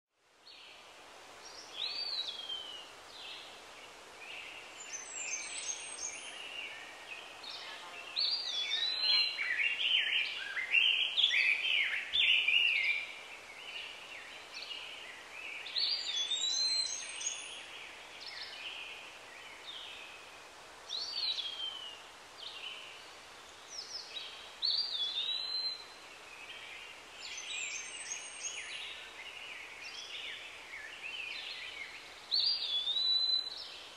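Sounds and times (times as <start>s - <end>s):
faint steady hiss: 0.1s - 33.9s
birds singing and calling: 1.5s - 33.9s.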